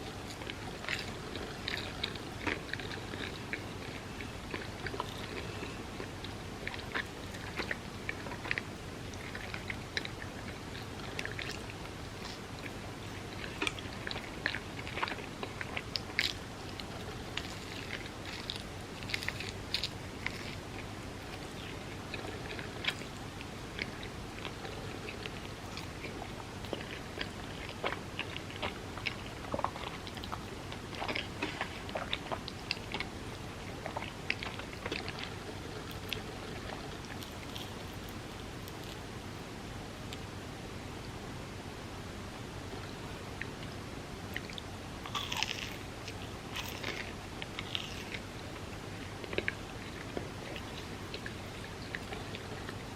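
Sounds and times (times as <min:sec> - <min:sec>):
person chewing food: 0:00.0 - 0:39.1, 0:42.7 - 0:52.9.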